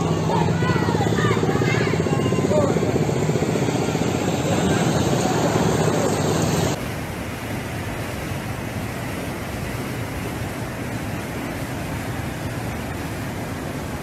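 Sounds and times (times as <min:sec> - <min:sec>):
river rushing in rapids: 0:00.0 - 0:14.0.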